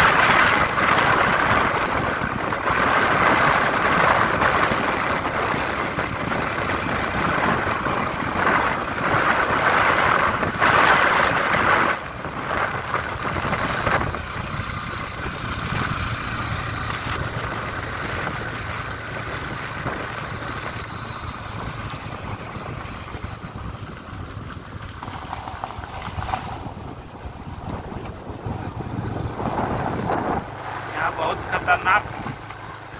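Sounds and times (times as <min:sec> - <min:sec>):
vehicle engine running: 0:00.0 - 0:32.9
wind rushing over microphone: 0:00.0 - 0:32.9.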